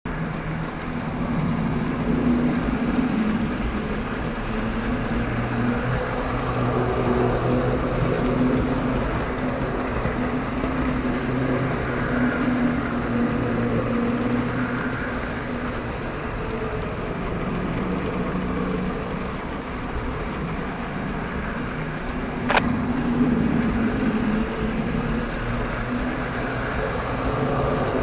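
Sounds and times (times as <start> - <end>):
model train motor hum: 0.1 - 28.0
wheels rolling on rail: 0.1 - 28.0.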